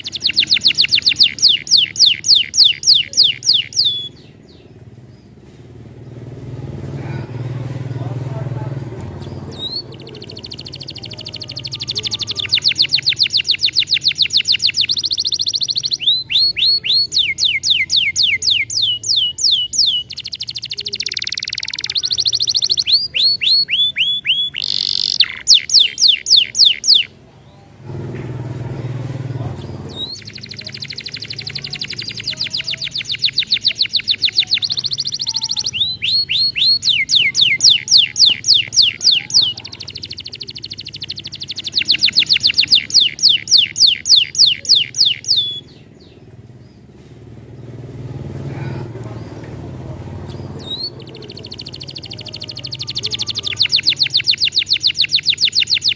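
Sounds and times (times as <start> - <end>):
canary singing trills: 0.0 - 27.9, 28.5 - 55.9.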